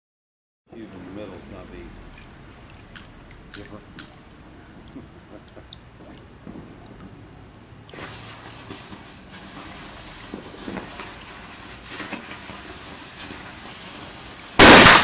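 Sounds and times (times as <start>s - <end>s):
crickets chirping: 0.7s - 15.0s
ground firework spraying hiss: 0.9s - 15.0s.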